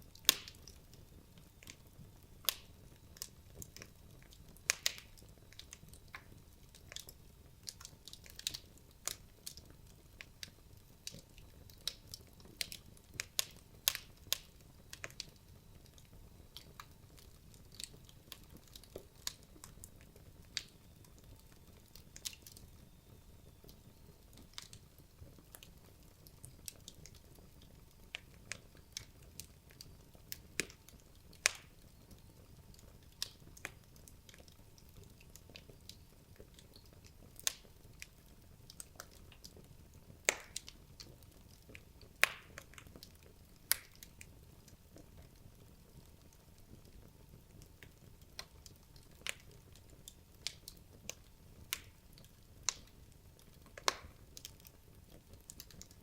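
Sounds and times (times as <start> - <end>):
faint hiss of flames: 0.0 - 56.0
logs crackling and popping: 0.0 - 56.0.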